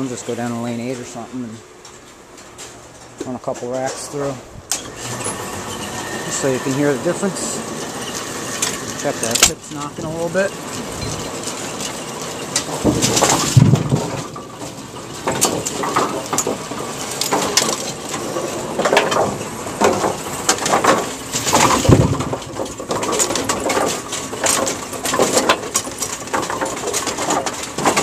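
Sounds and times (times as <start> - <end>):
bowling pins clattering: 0.0 - 28.0
running machinery: 0.3 - 28.0.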